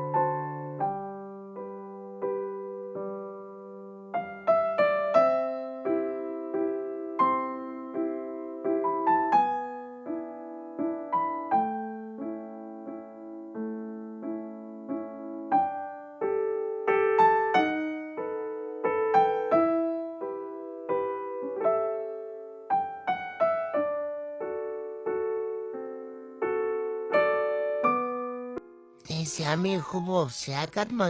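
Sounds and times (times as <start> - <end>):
slow piano melody: 0.0 - 31.0.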